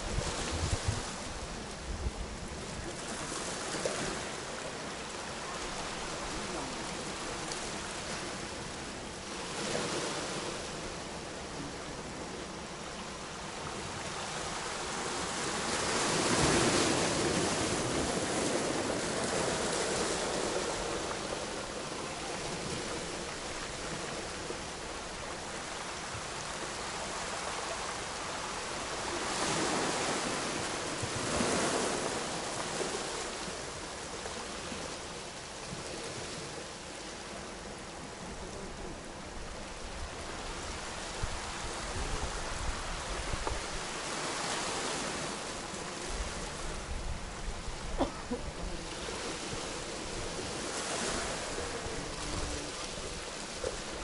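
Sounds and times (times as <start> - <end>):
waves washing over pebbles: 0.0 - 54.0.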